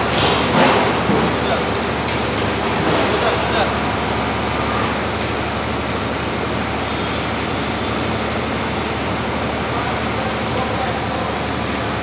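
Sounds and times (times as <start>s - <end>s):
block-making machine running: 0.0s - 12.0s.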